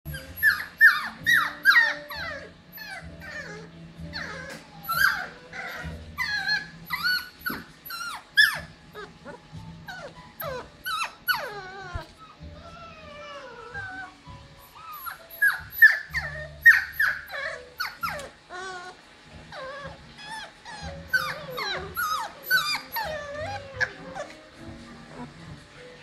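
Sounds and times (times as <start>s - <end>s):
puppies whining and yelping: 0.1s - 26.0s.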